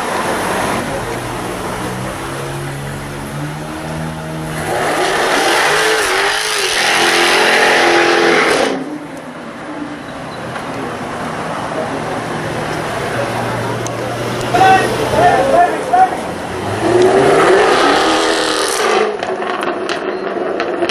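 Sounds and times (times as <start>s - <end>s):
car engine revving hard: 0.0s - 9.7s, 10.6s - 20.9s
steady engine sound: 0.0s - 19.8s.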